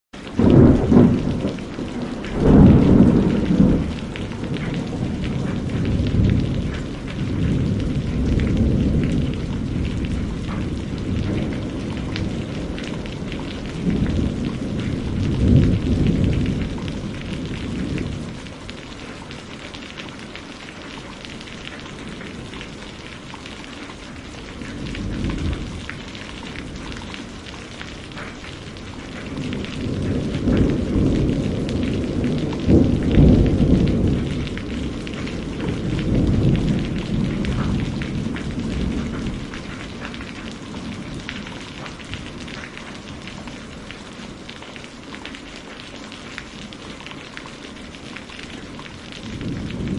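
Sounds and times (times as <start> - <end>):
heavy rain falling: 0.2 - 49.9
thunder rumbling: 0.3 - 45.0, 45.7 - 49.9.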